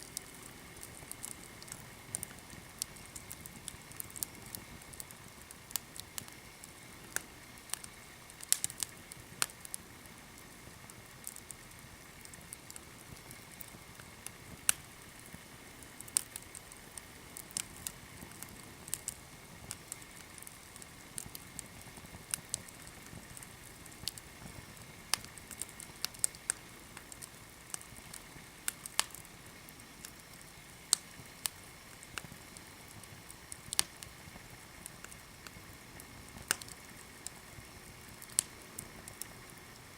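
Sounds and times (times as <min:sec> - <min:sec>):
faint steady hiss: 0:00.0 - 0:39.9
small fire crackling: 0:00.0 - 0:39.9.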